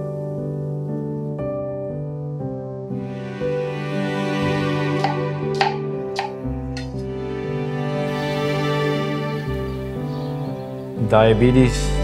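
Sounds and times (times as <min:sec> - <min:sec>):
soft music with sustained chords: 0:00.0 - 0:12.0.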